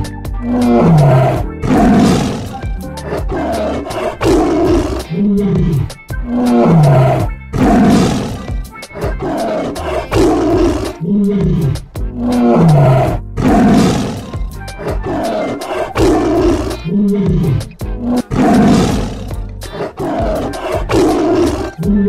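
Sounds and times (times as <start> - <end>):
background music: 0.0 - 22.0
tiger roaring and growling: 0.4 - 22.0.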